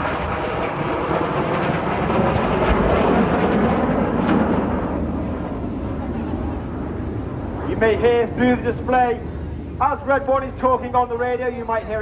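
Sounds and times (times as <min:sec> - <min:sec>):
jets passing: 0:00.0 - 0:12.0.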